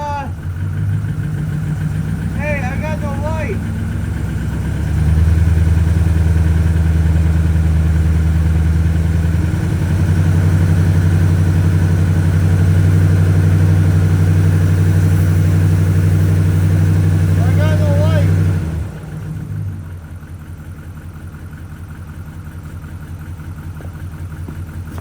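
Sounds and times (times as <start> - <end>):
misfiring truck engine: 0.0 - 25.0.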